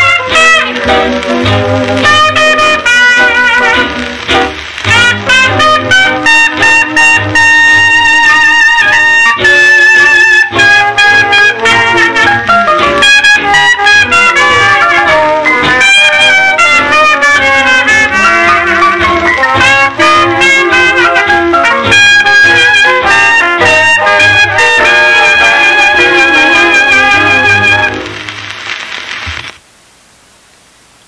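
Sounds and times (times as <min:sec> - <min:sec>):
swing jazz band with trumpet: 0:00.0 - 0:29.5.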